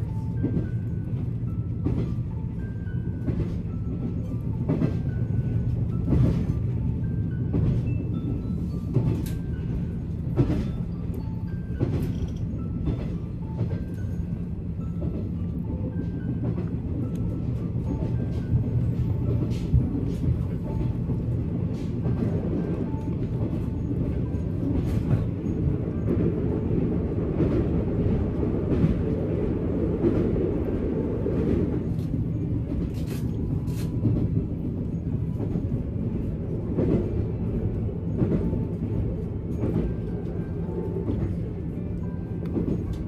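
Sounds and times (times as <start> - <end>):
train wheels on track: 0.0 - 43.0.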